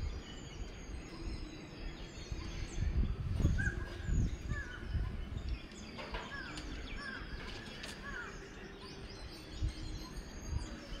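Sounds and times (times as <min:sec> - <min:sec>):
faint high bird chirps: 0:00.0 - 0:11.0.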